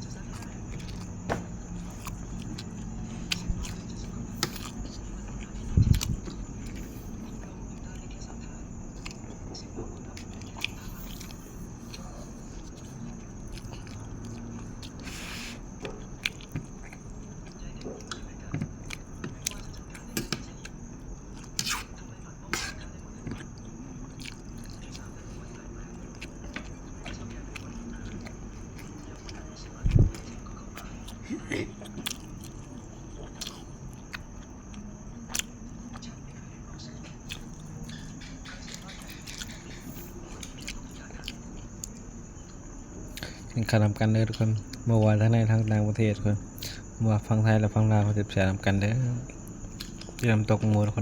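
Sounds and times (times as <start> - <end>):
person chewing food: 0.0 - 36.3, 37.0 - 45.0, 48.7 - 51.0
person eating: 0.0 - 36.3, 37.1 - 44.9, 49.3 - 50.9
low background hum: 0.0 - 51.0.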